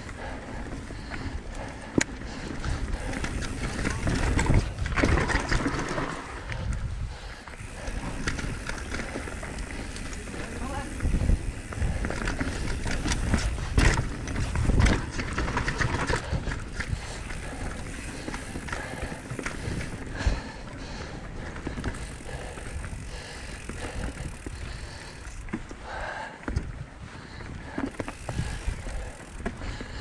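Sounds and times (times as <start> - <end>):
bike knocking and rattling: 0.0 - 30.0
bike tyres crunching on dirt trail: 0.0 - 30.0.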